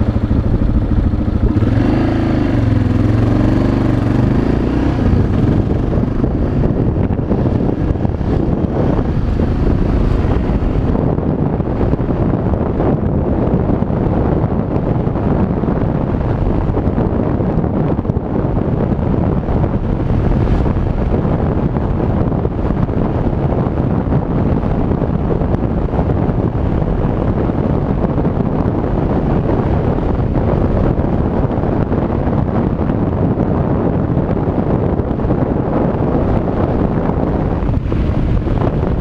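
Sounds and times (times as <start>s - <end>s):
motorcycle engine running: 0.0s - 39.0s
wind rushing over microphone: 0.0s - 39.0s.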